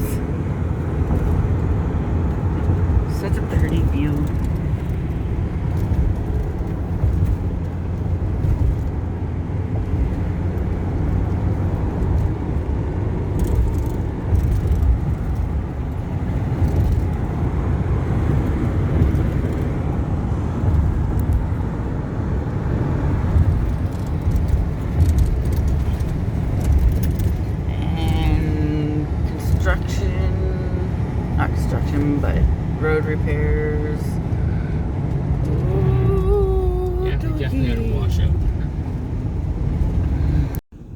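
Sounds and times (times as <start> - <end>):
van engine and tyre rumble: 0.0 - 40.9.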